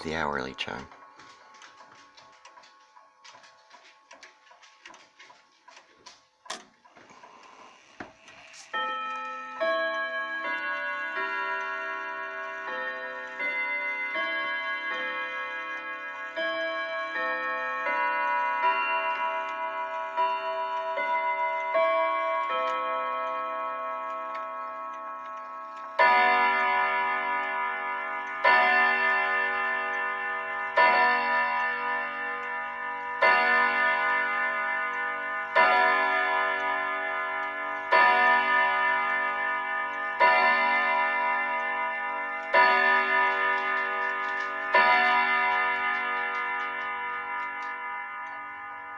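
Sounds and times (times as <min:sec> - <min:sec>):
grandfather clock chime melody: 0:00.0 - 0:05.9, 0:07.1 - 0:48.9
clock striking the hour: 0:00.0 - 0:48.9.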